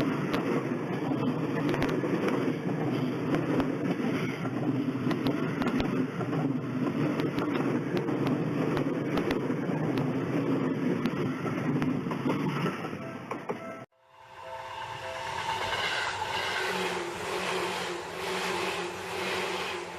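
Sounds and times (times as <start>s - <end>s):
train wheels rumbling on rail: 0.0s - 13.6s, 15.1s - 19.9s.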